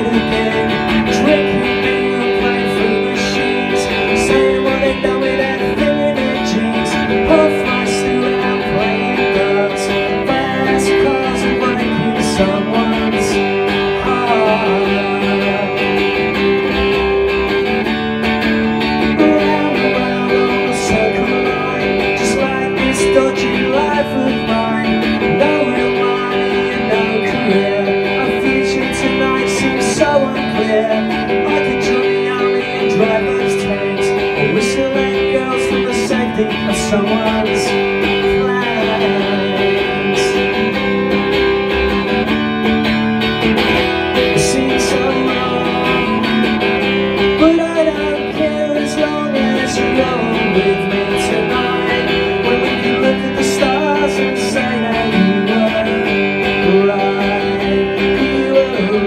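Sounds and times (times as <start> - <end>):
electric guitar strumming: 0.0 - 59.0.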